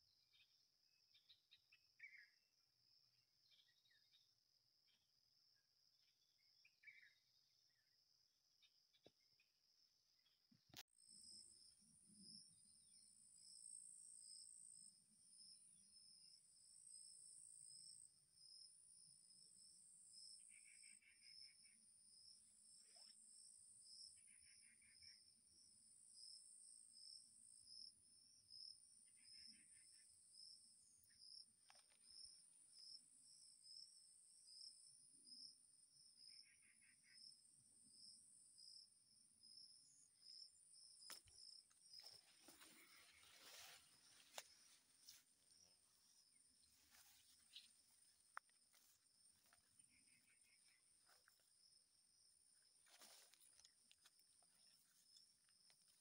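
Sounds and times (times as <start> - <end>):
pulsing insect chirp: 10.2 - 56.0.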